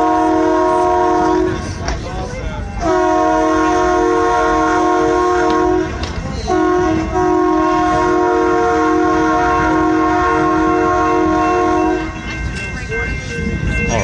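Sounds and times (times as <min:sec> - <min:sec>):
locomotive horn chord: 0:00.0 - 0:01.8, 0:02.7 - 0:12.4
moving train rumble: 0:00.0 - 0:14.0.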